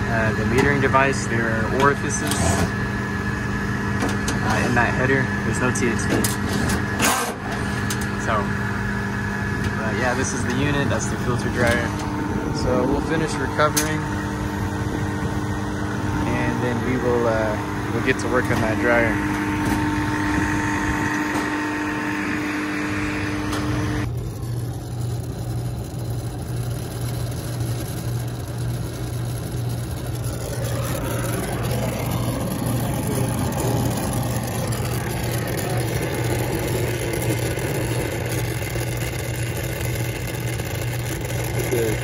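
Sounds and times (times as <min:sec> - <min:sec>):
low machine hum with hiss: 0:00.0 - 0:42.0
machine humming with held tones: 0:00.0 - 0:42.0.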